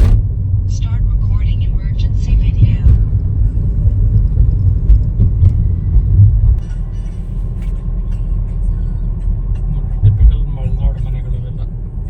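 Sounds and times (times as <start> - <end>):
vehicle rumble from on board: 0.0 - 12.0.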